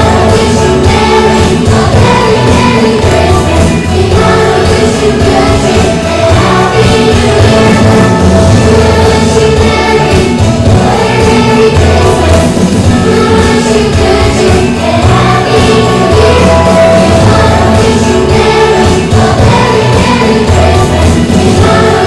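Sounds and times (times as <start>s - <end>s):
band playing upbeat song: 0.0s - 22.0s
group of voices singing: 0.0s - 22.0s.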